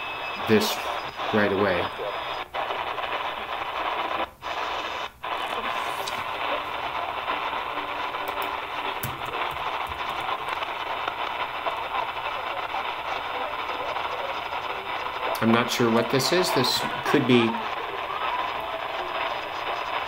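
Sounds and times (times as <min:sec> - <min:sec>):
radio static and hiss: 0:00.0 - 0:20.0
weak radio broadcast: 0:00.0 - 0:20.0.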